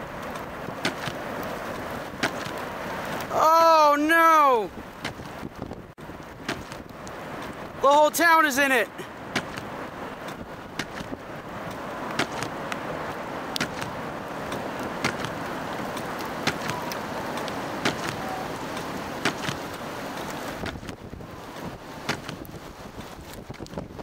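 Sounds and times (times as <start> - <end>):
storm wind rushing: 0.0 - 8.2, 8.9 - 24.0.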